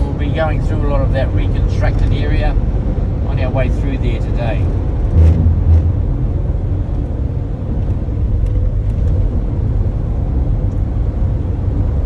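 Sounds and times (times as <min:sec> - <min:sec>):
engine and tyres rumble: 0:00.0 - 0:12.0.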